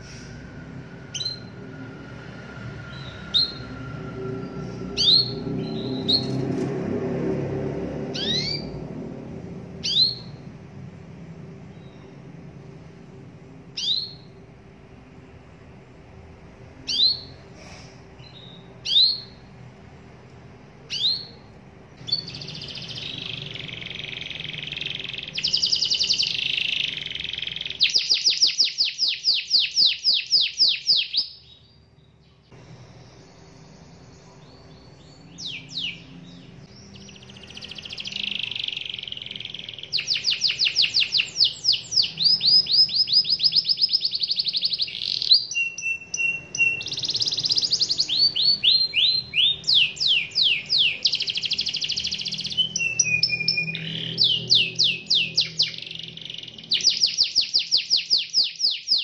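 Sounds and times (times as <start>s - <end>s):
canary singing in rolling trills: 0.0s - 59.0s.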